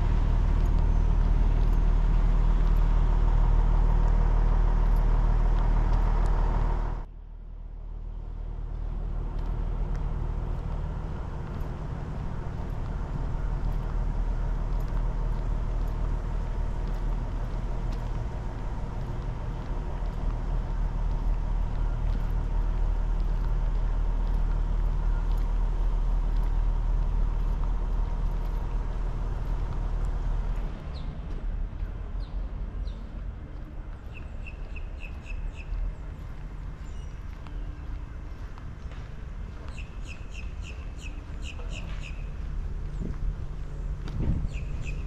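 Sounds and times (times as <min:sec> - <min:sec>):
engine running with whine: 0:00.0 - 0:45.0.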